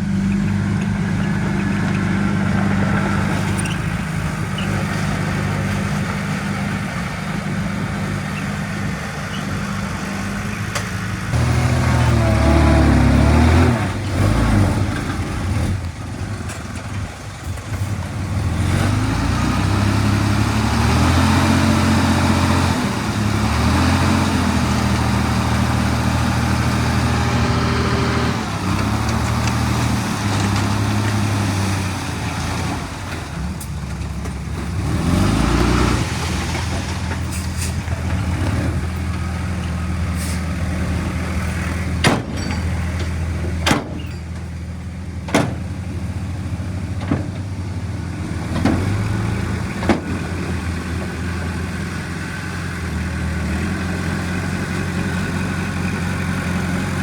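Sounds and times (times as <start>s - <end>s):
heavy diesel engine revving: 0.0s - 57.0s.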